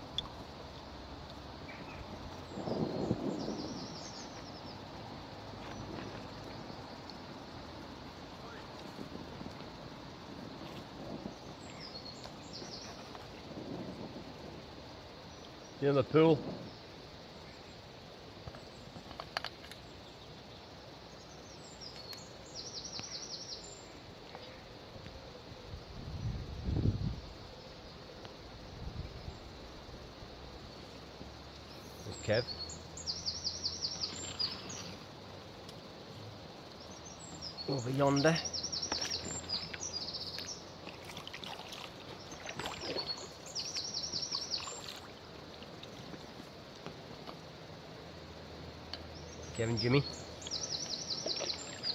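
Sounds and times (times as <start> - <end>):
steady background hiss: 0.0 - 51.9.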